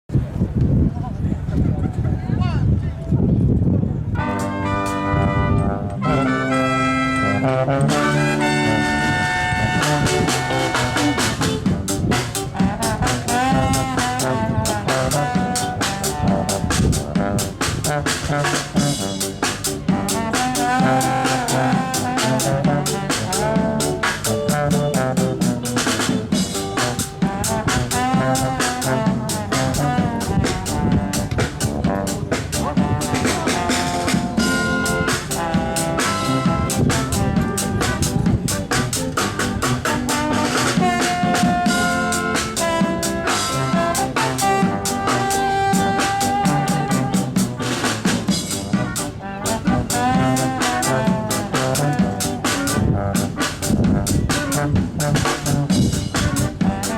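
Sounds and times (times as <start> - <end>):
jazz brass: 4.0 - 56.9
held horn-like notes: 4.1 - 56.9
drum kit steady beat: 7.8 - 56.9.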